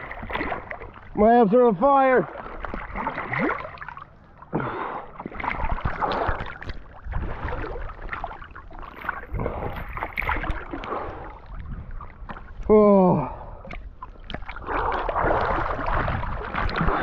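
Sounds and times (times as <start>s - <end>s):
river water splashing and gurgling: 0.0s - 17.0s.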